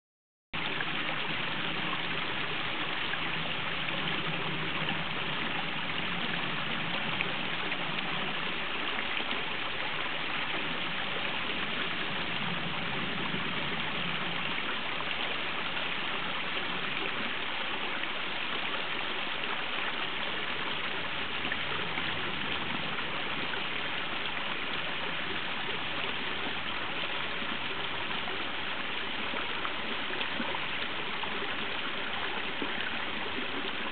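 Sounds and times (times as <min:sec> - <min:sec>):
stream trickling over rocks: 0:00.6 - 0:33.9.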